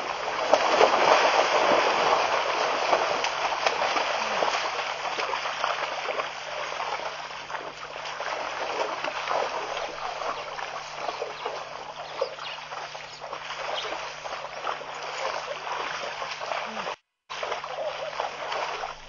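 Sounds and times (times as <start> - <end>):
animals splashing in water: 0.0 - 19.0
faint low hum: 0.0 - 19.0.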